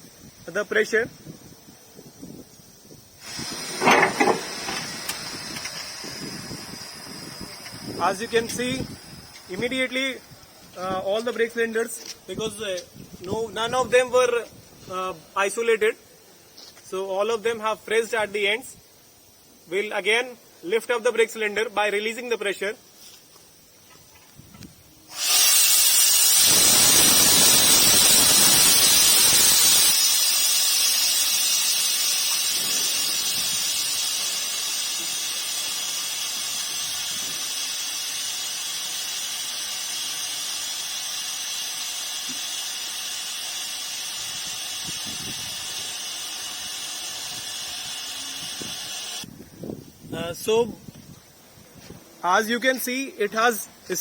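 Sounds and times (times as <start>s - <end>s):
compressed air hissing: 0.0s - 20.7s, 22.8s - 51.0s.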